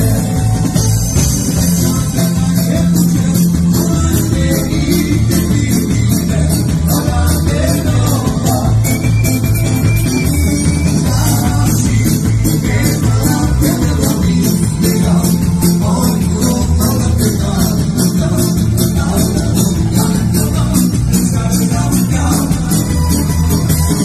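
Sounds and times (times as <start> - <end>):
man singing into microphone: 0.0 - 0.7, 1.4 - 24.0
live band music: 0.0 - 24.0.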